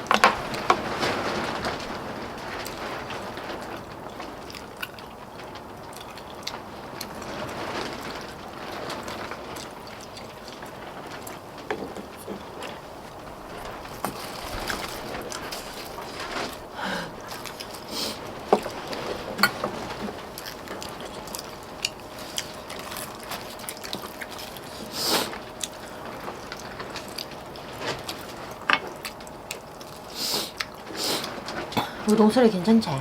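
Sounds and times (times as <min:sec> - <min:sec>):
chewing: 0:02.6 - 0:32.0.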